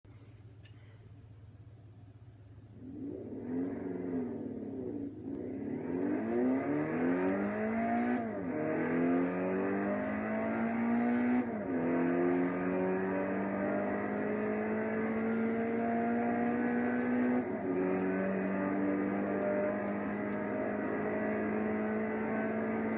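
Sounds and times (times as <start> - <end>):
car engine accelerating through gears: 2.7 - 22.9.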